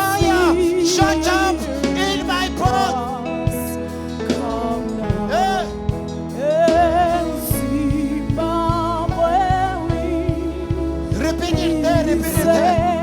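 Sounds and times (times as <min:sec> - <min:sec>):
steady low beat: 0:00.0 - 0:13.0
sustained chords: 0:00.0 - 0:13.0.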